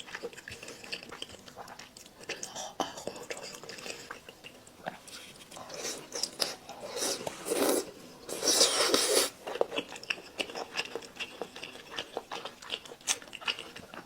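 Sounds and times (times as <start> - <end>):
biting and chewing food: 0.0 - 14.0.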